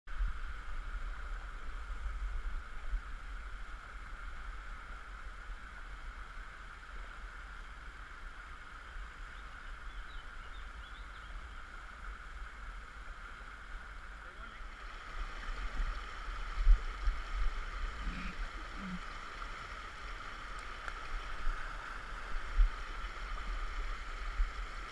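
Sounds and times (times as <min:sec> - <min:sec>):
low water rumble: 0:00.1 - 0:24.9
stream rushing over rocks: 0:00.1 - 0:24.9.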